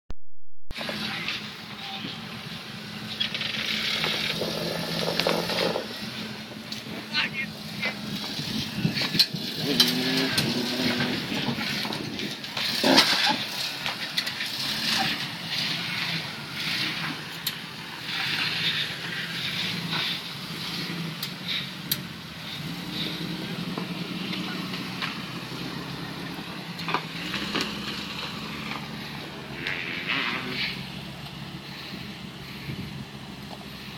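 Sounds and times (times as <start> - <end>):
car engine running at low speed: 0.7 - 33.9.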